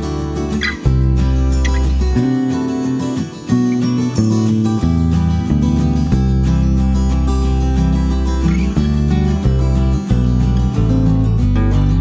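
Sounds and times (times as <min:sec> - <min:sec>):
steady bass: 0:00.0 - 0:02.7, 0:03.6 - 0:12.0
strummed acoustic guitar: 0:00.0 - 0:12.0.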